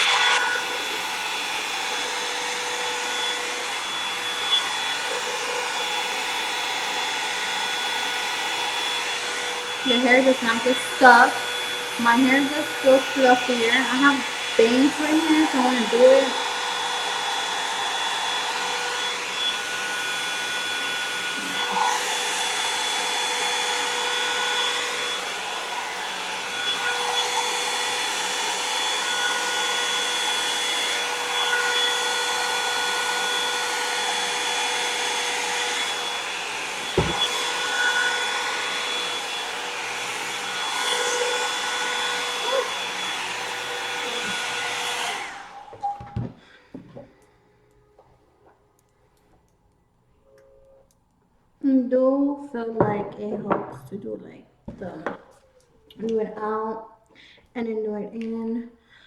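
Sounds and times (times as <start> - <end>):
hair dryer blowing: 0.0 - 48.3.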